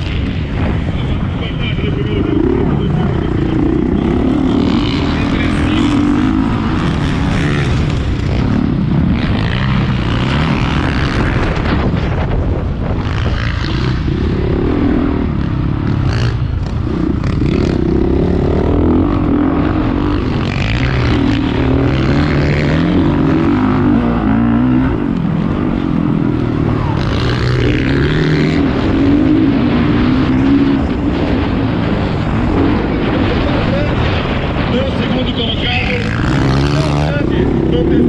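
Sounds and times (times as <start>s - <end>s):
motocross bike engine revving: 0.0s - 12.2s, 12.8s - 38.0s.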